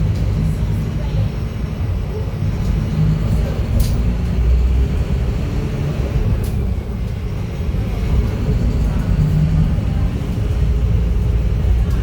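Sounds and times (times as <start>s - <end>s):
diesel bus engine rumbling: 0.0s - 12.0s.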